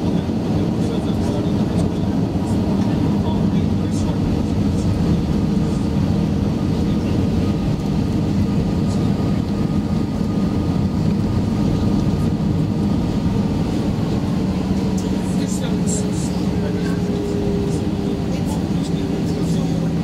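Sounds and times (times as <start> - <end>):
airplane cabin hum: 0.0 - 20.0.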